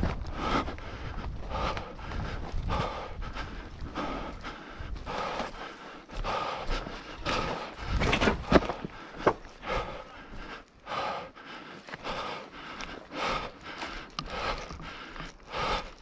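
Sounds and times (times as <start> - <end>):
footsteps: 0.0 - 16.0
heavy breathing: 0.0 - 16.0.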